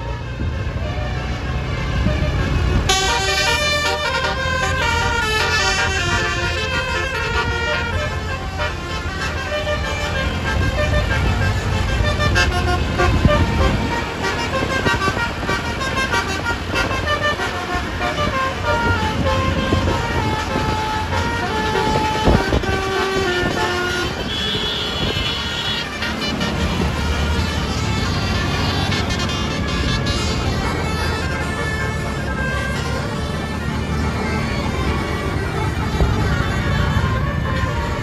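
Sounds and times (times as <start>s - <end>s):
bus engines rumbling: 0.0s - 38.0s
multi-tone bus horn melody: 0.0s - 38.0s.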